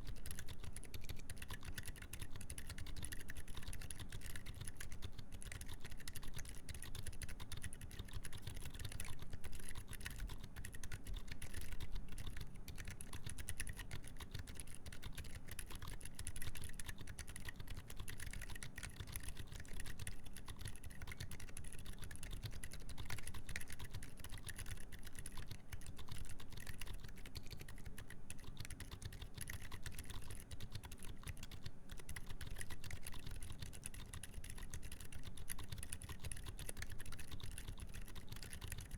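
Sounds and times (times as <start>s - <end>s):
soft mechanical keyboard typing: 0.0s - 38.9s.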